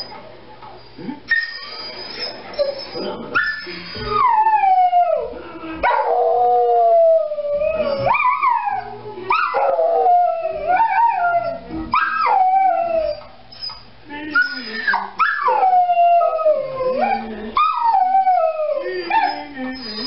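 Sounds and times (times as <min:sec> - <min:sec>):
dog howling: 0:01.4 - 0:13.7, 0:14.3 - 0:20.0.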